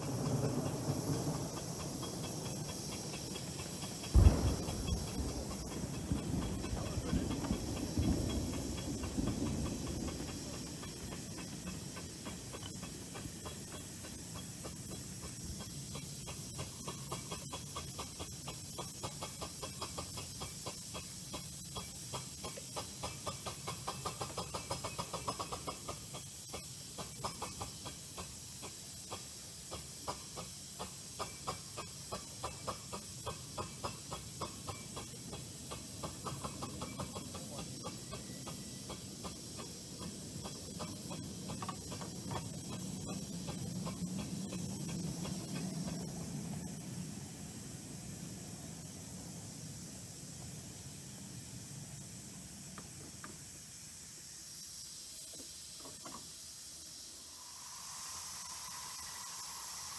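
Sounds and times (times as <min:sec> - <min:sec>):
train hiss with rhythmic clicking: 0:00.0 - 0:59.9.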